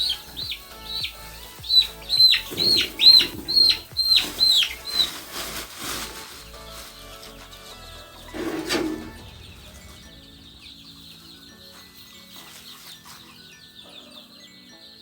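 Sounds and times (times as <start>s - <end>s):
background music: 0.0s - 15.0s
chickens peeping and clucking: 0.0s - 15.0s.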